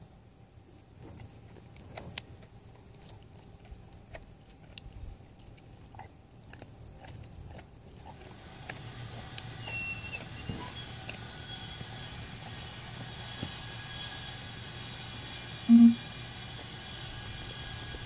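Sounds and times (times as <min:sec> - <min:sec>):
dog gnawing on chew bone: 0:00.6 - 0:18.0.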